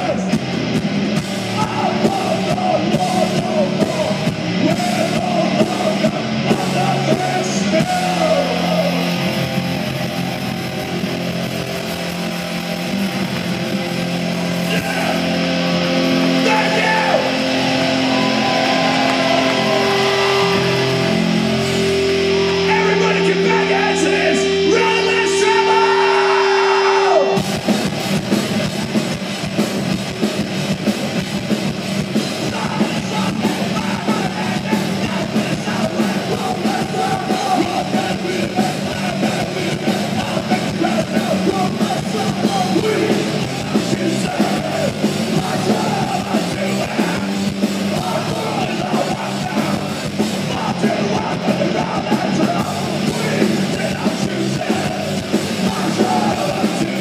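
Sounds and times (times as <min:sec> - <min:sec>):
fast drums: 0:00.0 - 0:57.0
punk band playing live: 0:00.0 - 0:57.0
ringing guitar and bass notes: 0:00.0 - 0:57.0
shouted vocals: 0:01.5 - 0:11.3, 0:14.5 - 0:27.4, 0:32.4 - 0:57.0.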